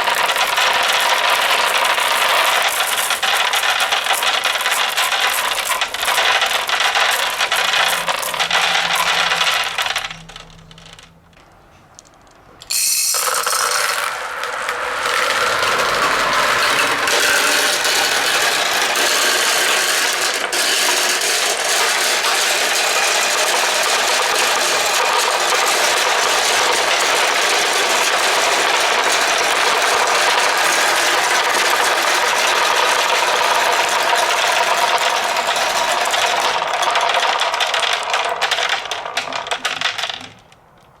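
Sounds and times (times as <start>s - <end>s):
marbles rattling down a marble run: 0.0s - 11.1s, 12.7s - 40.5s.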